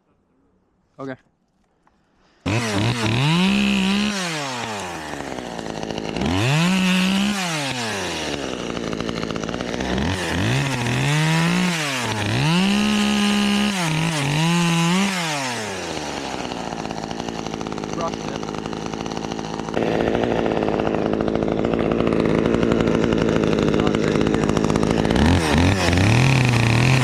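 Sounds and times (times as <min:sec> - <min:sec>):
chainsaw revving: 0:02.4 - 0:27.0.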